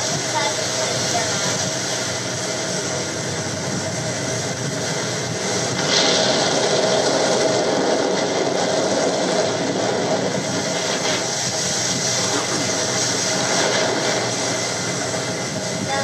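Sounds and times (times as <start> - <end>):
boat engine rumble: 0.0 - 16.0
wind on microphone: 0.0 - 16.0.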